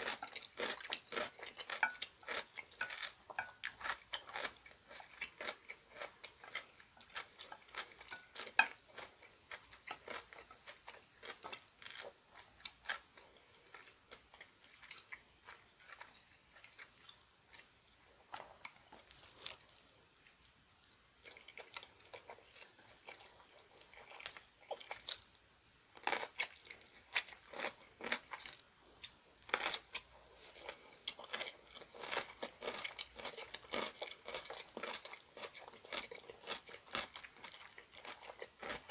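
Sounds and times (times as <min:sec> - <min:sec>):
person chewing with sharp crunches: 0:00.0 - 0:25.4, 0:26.0 - 0:38.9.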